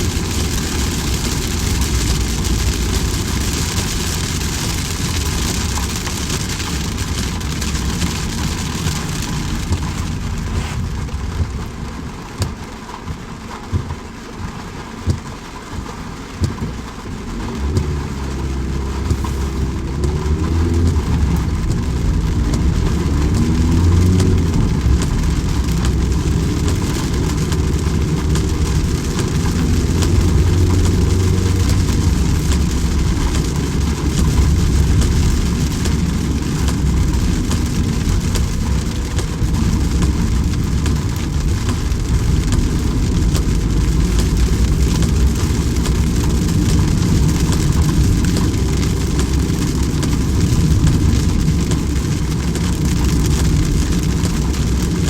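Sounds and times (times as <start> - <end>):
low rumble: 0.0 - 12.8, 16.4 - 55.0
rain hissing: 0.0 - 55.0.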